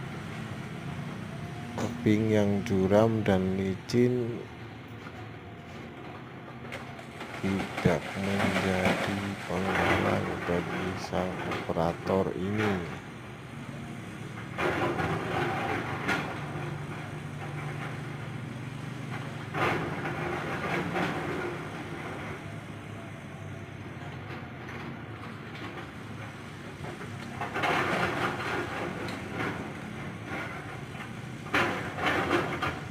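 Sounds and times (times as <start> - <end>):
excavator diesel engine running: 0.0 - 32.9
clattering and grinding: 0.3 - 22.7, 24.0 - 32.9.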